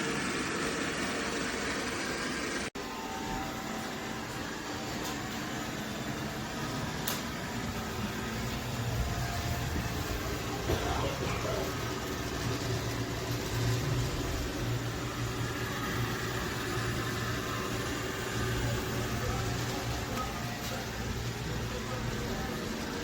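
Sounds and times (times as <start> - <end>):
robot vacuum motor hum: 0.0 - 23.0.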